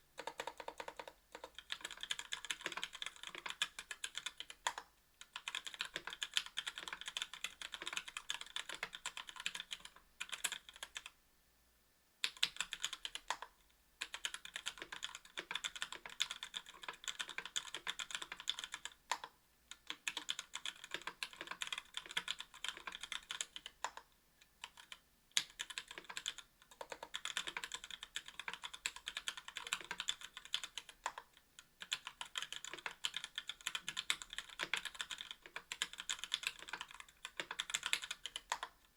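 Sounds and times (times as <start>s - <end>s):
keyboard typing clicks: 0.2s - 11.1s, 12.2s - 38.8s.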